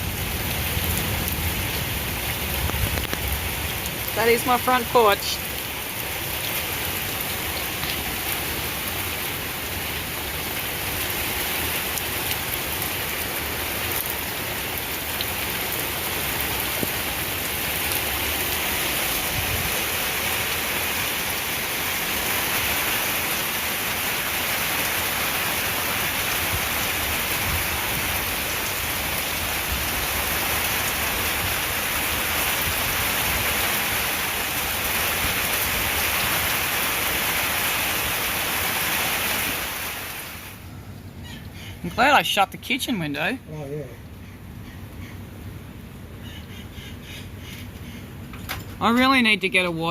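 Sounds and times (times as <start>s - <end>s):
rain falling: 0.0s - 46.3s, 47.4s - 49.9s.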